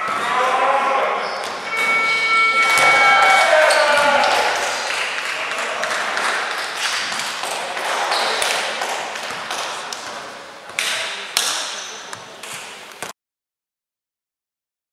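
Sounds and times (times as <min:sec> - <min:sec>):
sports hall noise: 0:00.0 - 0:13.2.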